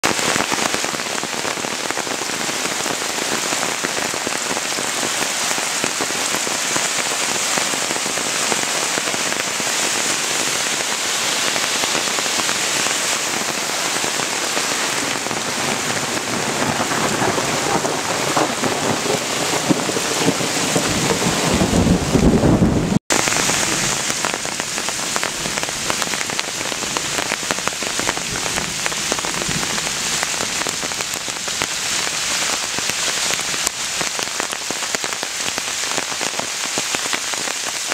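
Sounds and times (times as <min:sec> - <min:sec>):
heavy rain hissing on water: 0:00.0 - 0:37.9.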